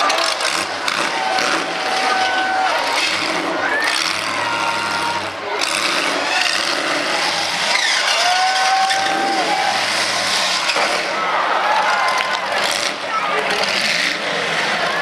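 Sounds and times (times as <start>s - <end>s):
car engines revving: 0.0s - 15.0s
cars shoving together: 0.0s - 15.0s
crowd voices: 0.0s - 15.0s.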